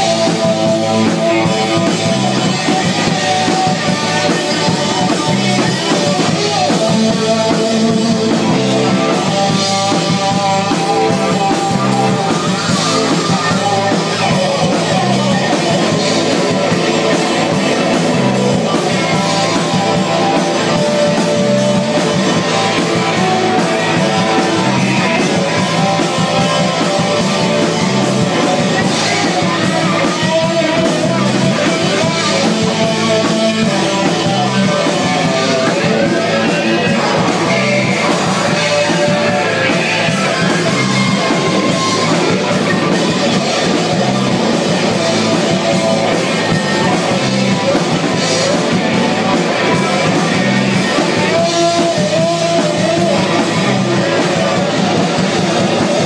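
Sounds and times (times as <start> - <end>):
rock band playing loud: 0.0 - 56.0.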